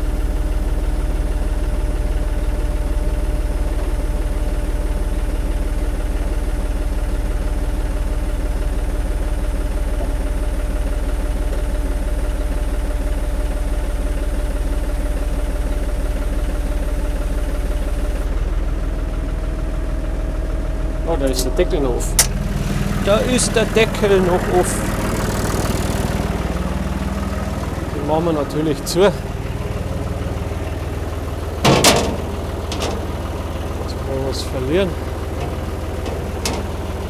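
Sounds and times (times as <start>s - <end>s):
tractor diesel engine idling: 0.0s - 37.0s.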